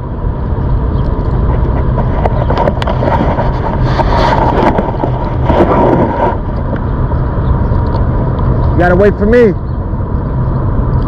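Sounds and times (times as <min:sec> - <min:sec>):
electric bike rumbling: 0:00.0 - 0:11.0
wind buffeting microphone: 0:00.0 - 0:11.0.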